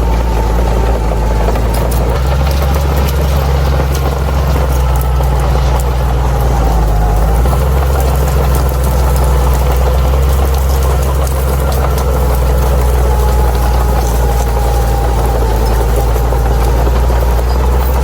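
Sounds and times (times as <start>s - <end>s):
bulldozer diesel engine rumbling: 0.0s - 18.0s
thin engine whine: 0.0s - 18.0s.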